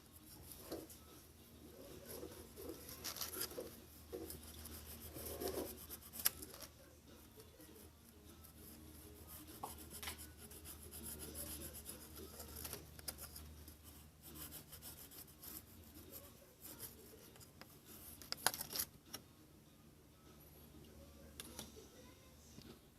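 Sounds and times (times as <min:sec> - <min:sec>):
faint low hum: 0:00.0 - 0:22.9.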